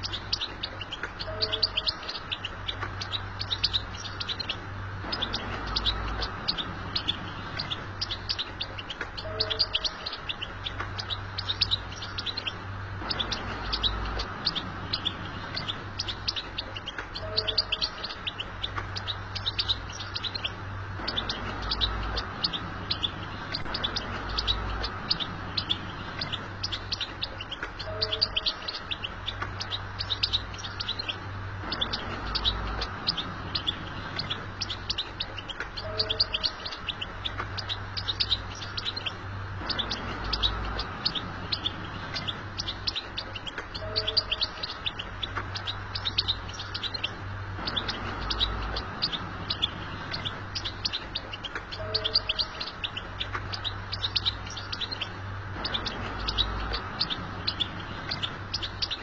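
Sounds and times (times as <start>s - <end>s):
goldfinch twittering: 0.0s - 59.0s.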